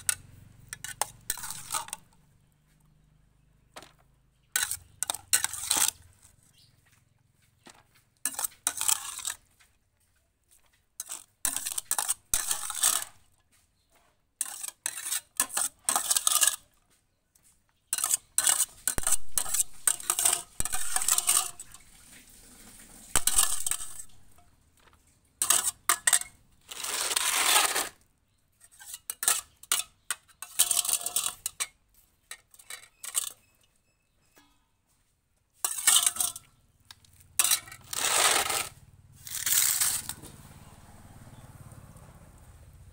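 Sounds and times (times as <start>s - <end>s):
utensil scraping food containers: 0.0s - 2.8s, 3.6s - 9.9s, 10.5s - 16.8s, 17.4s - 34.6s, 35.6s - 40.7s.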